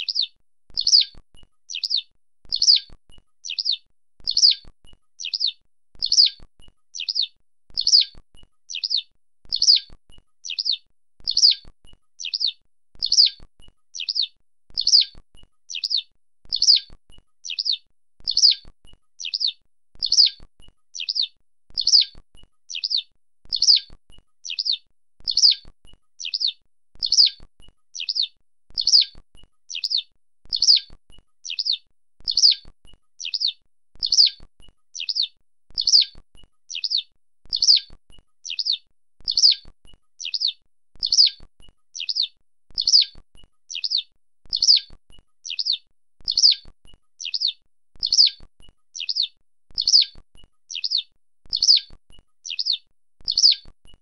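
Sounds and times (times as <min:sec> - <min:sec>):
skylark chirping: 0:00.0 - 0:53.7.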